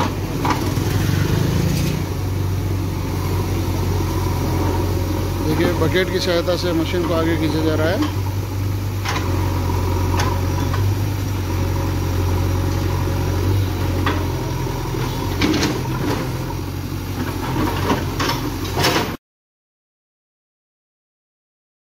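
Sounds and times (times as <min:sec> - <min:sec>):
diesel engine running: 0:00.0 - 0:19.2.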